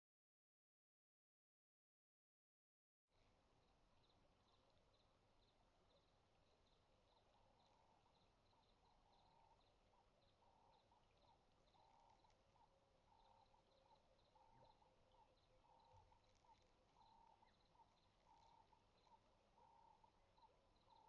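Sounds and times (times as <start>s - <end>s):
faint chirping calls: 3.2s - 21.0s.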